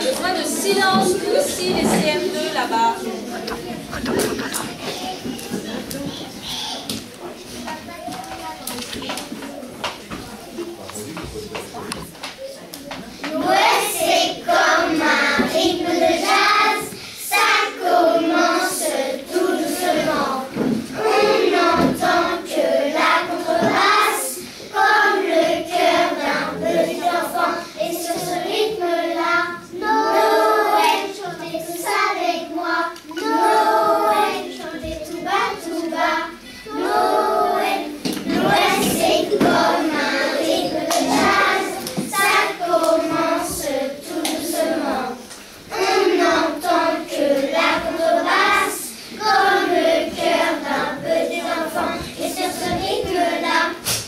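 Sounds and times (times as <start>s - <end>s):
children singing together: 0.0s - 7.5s, 13.2s - 54.0s.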